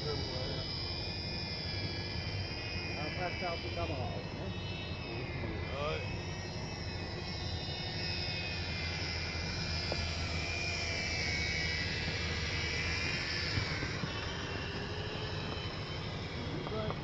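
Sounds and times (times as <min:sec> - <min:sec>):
wavering high whine: 0:00.0 - 0:17.0.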